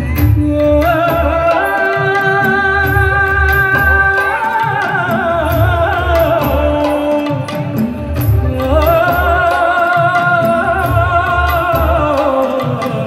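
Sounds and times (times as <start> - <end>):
steady drum beats: 0.0 - 13.0.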